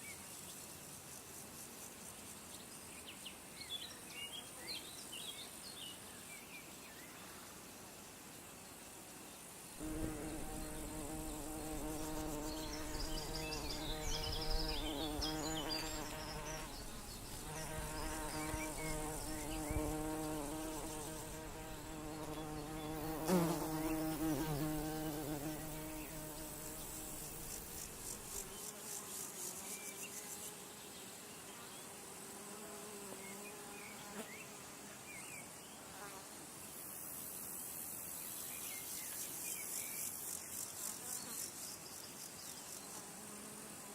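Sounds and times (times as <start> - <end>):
flying insect buzzing: 7.2 - 43.9.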